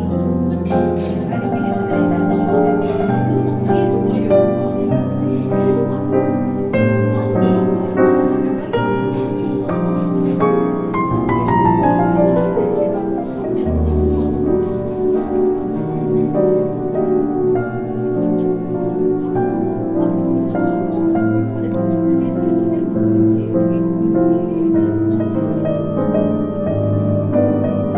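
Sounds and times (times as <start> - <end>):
piano background music: 0.0 - 27.9.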